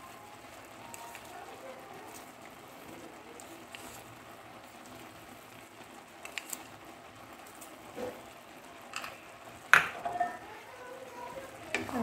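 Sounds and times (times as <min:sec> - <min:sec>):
rice crackling in a pan: 0:00.0 - 0:12.0.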